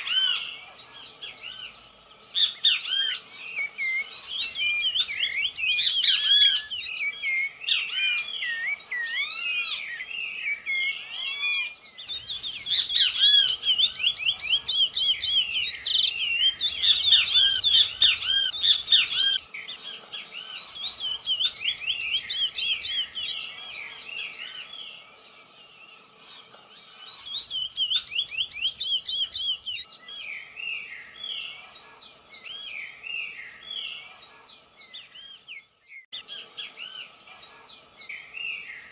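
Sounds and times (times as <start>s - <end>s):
dawn chorus of birds: 0.0s - 38.9s.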